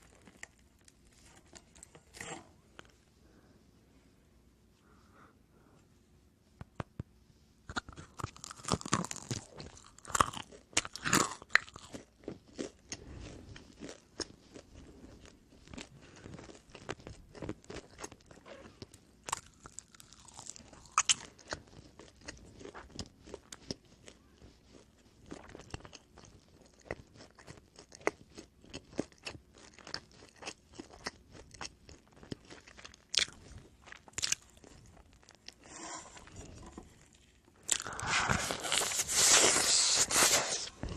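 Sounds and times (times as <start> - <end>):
crunchy bread being chewed: 0.0 - 3.0, 7.7 - 40.9.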